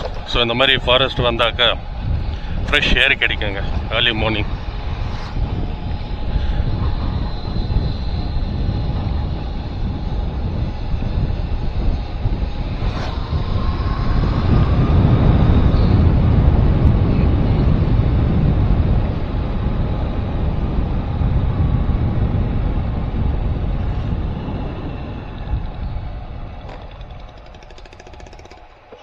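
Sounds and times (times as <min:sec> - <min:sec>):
moving vehicle rumble: 0:00.0 - 0:29.0
wind buffeting microphone: 0:00.0 - 0:29.0.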